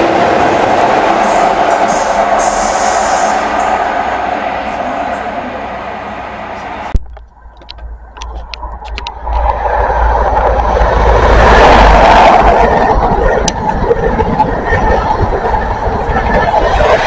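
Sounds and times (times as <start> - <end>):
train coaches rushing past: 0.0 - 6.9, 9.6 - 17.0
diesel train passing: 0.0 - 7.0, 7.8 - 17.0.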